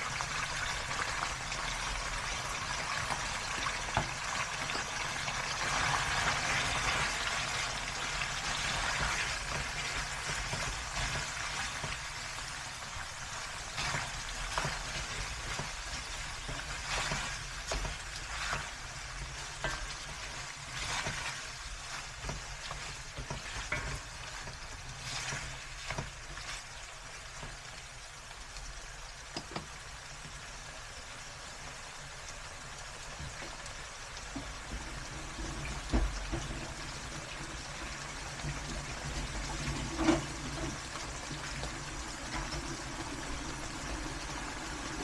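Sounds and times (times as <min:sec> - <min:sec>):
food sizzling in a hot pan: 0:00.0 - 0:45.0.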